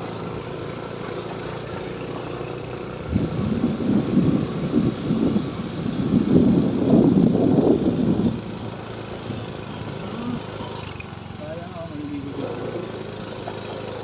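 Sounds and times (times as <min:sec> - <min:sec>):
vehicle driving on rocky road: 0:00.0 - 0:14.0.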